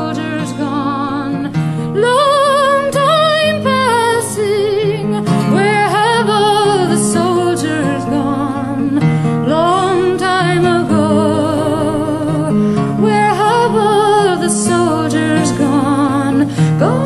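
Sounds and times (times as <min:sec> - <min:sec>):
guitar accompaniment: 0:00.0 - 0:17.0
person singing with vibrato: 0:00.0 - 0:17.0.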